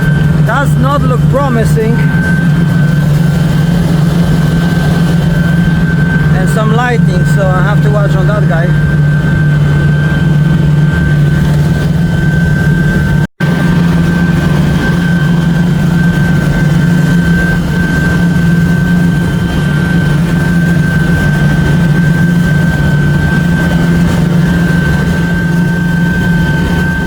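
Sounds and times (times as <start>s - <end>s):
boat engine droning: 0.0s - 27.0s
high engine whine: 0.0s - 27.0s.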